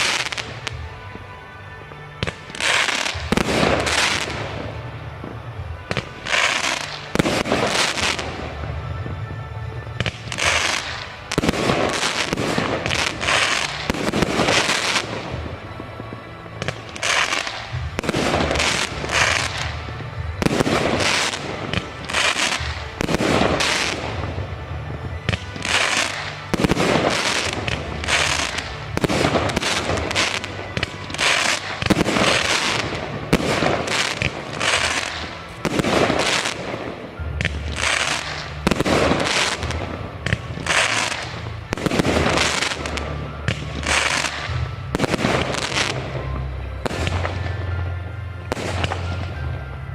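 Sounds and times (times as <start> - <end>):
fireworks bursting and crackling: 0.0 - 49.9
loud fireworks bangs: 0.0 - 49.9.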